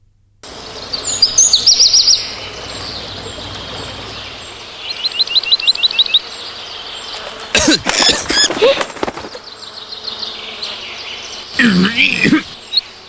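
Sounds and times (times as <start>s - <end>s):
background hiss: 0.0s - 13.0s
bird chirping: 0.4s - 7.5s, 8.1s - 13.0s.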